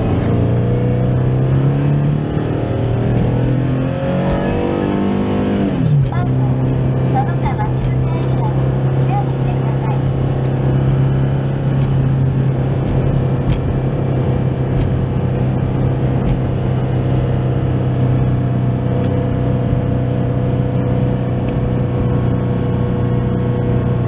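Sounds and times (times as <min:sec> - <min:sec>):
car engine drone inside cabin: 0:00.0 - 0:24.0.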